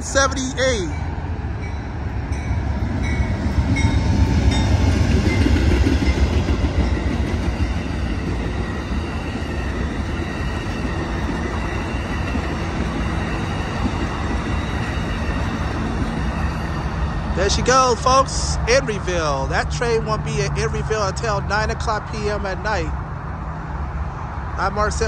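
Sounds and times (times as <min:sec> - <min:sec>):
diesel locomotive engine rumble: 0:00.0 - 0:25.0
passenger cars rolling by: 0:00.0 - 0:25.0.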